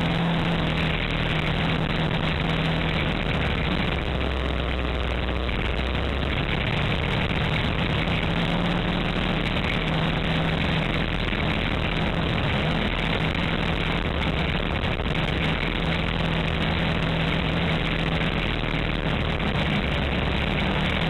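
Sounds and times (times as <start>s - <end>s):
vehicle engine running: 0.0s - 21.0s
wind and tyre noise: 0.0s - 21.0s.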